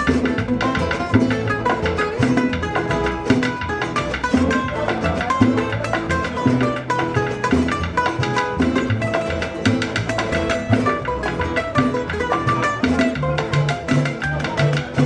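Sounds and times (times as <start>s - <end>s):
bongos played by hand: 0.0s - 15.0s
string instruments playing: 0.0s - 15.0s.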